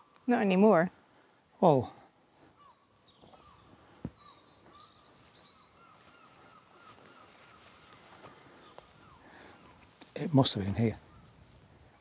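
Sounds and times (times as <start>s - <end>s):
distant bird calls: 0.0s - 12.0s.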